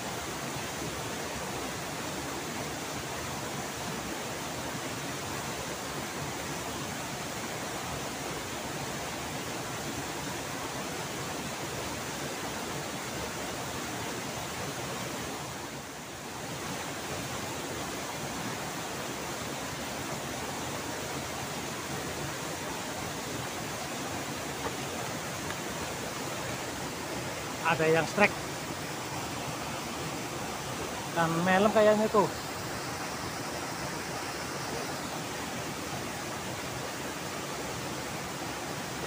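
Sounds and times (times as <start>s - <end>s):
waterfall and river rushing: 0.0s - 39.0s.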